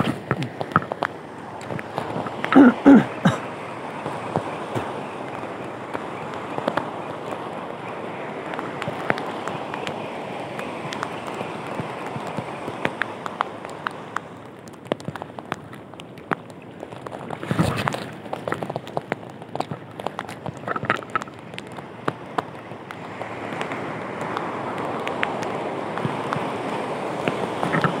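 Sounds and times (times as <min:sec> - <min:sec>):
sea waves washing: 0:00.0 - 0:28.0.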